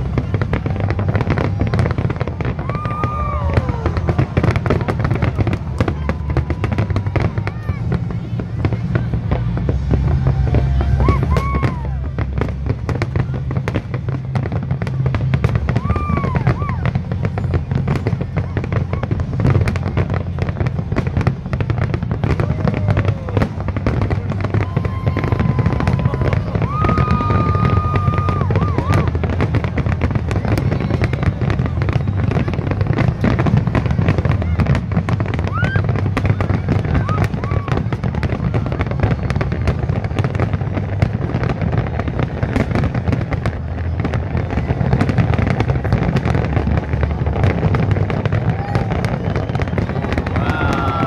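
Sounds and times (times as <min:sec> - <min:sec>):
fireworks bangs and crackles: 0:00.0 - 0:51.0
steady low rumble: 0:00.0 - 0:51.0.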